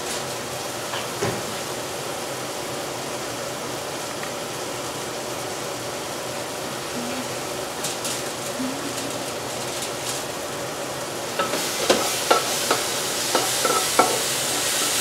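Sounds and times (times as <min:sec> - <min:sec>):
appliance mechanical hum: 0:00.0 - 0:15.0.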